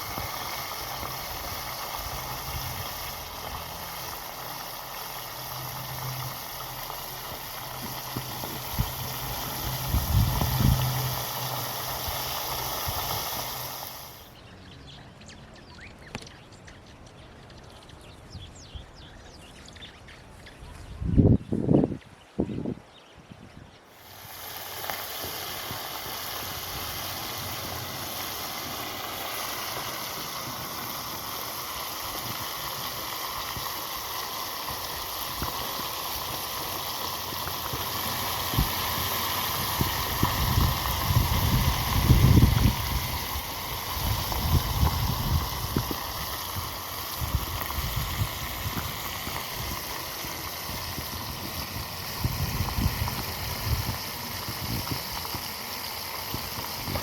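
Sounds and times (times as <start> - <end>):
flowing water rushing: 0.0 - 14.3, 24.0 - 57.0.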